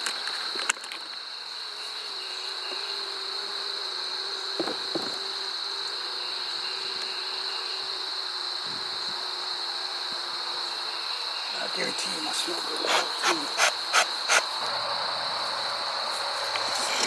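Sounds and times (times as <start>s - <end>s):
high insect trill: 0.0s - 17.0s
honey bees humming: 1.1s - 17.0s.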